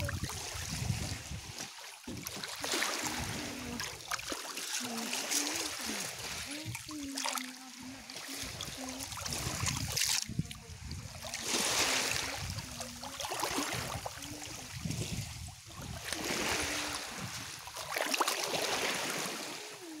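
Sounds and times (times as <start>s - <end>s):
small waves washing over pebbles: 0.0s - 20.0s.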